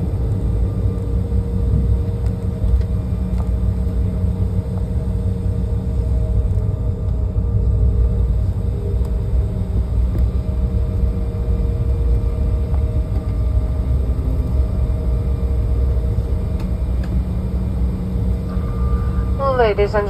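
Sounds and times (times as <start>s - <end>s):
faint engine hum: 0.0s - 20.0s
low rumble inside jet cabin: 0.0s - 20.0s.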